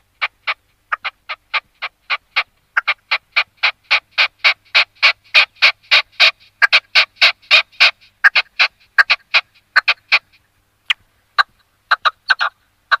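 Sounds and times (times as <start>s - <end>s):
partridge harsh chuck calls: 0.2s - 13.0s.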